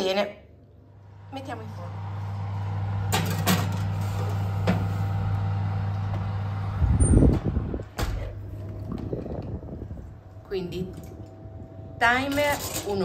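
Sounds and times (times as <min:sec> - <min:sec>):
steady low hum: 0:00.5 - 0:12.3.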